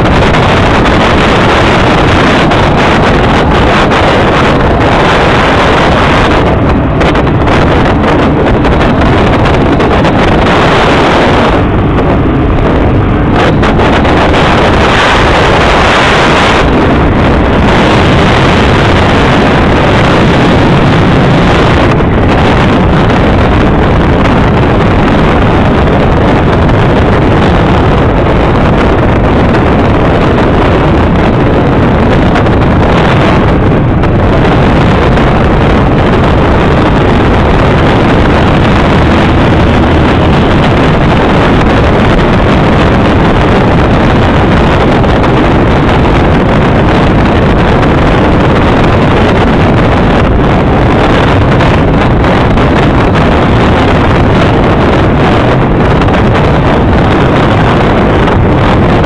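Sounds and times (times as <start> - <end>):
boat engine running: 0.0 - 59.0
wind buffeting microphone: 0.0 - 59.0.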